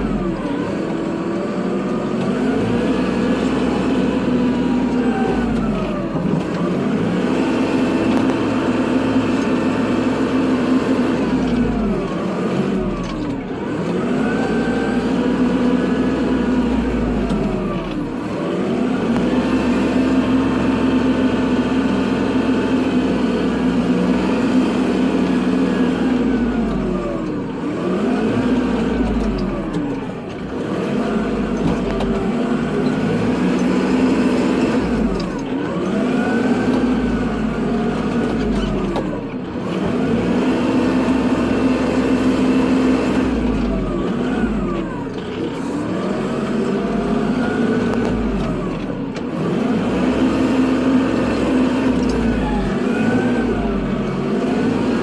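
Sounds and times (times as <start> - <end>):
tractor diesel engine: 0.0 - 55.0.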